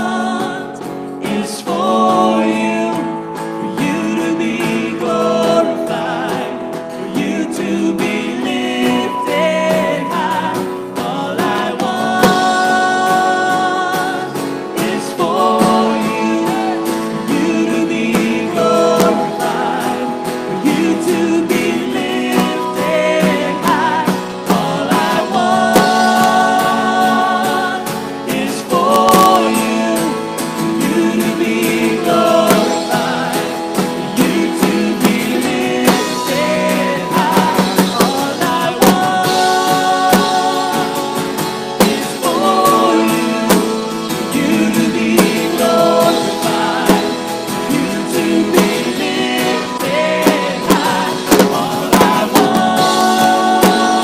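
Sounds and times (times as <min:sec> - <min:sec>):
man and woman singing: 0:00.0 - 0:54.0
strummed acoustic guitar: 0:00.0 - 0:54.0.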